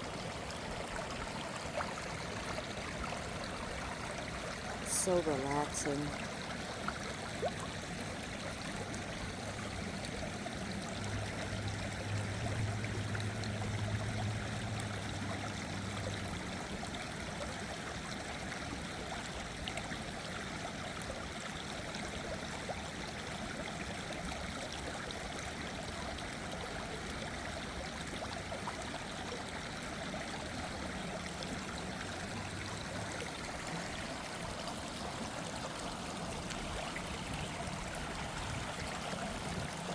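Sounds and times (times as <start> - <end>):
water splashing and rushing: 0.0 - 20.1, 23.8 - 39.9.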